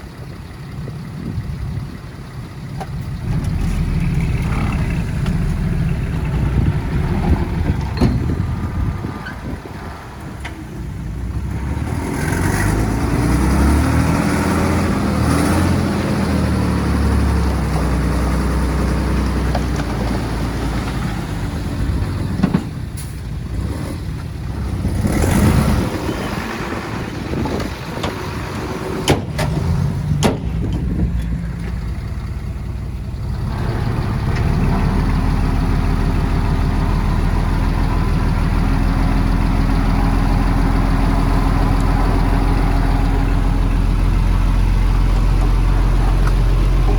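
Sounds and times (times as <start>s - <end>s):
heavy diesel machinery engine: 0.0s - 46.9s.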